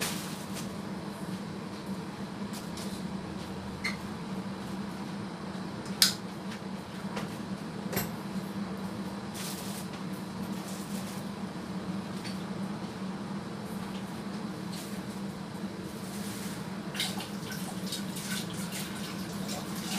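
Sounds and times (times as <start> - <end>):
gas burner hum: 0.0 - 17.1.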